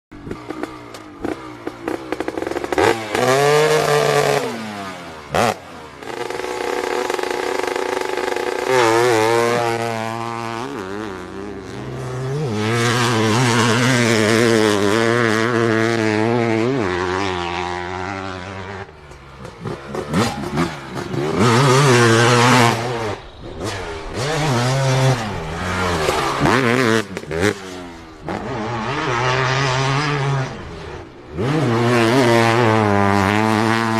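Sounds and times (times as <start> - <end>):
motorcycle engines revving: 0.1 - 33.9.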